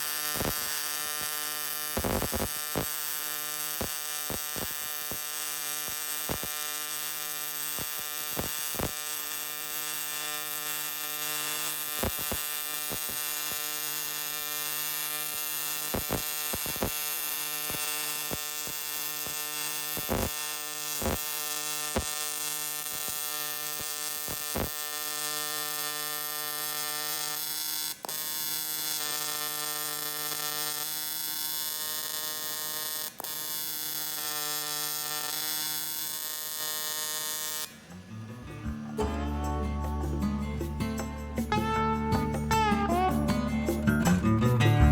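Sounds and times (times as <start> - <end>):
welding arc buzzing: 0.0 - 44.0.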